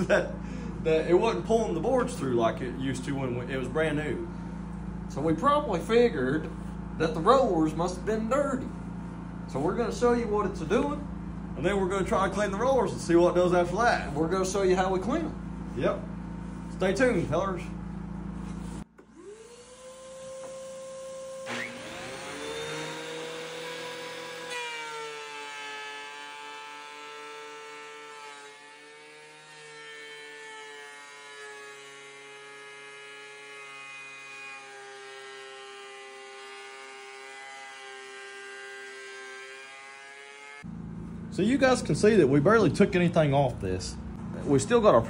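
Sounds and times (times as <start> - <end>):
dust extraction vacuum: 0.0 - 45.0
thickness planer whining: 0.0 - 45.0.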